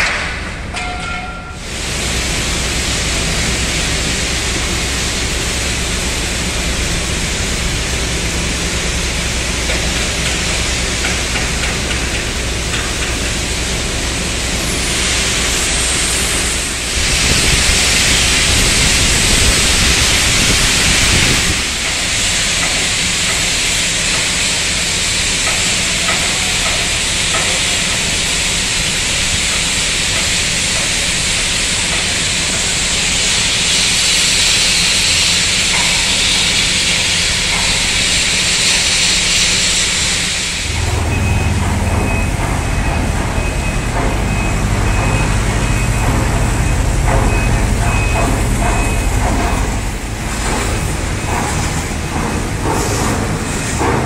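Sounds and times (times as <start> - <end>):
boom lift engine running: 0.0 - 54.0
high-pressure water jet hissing: 1.6 - 54.0.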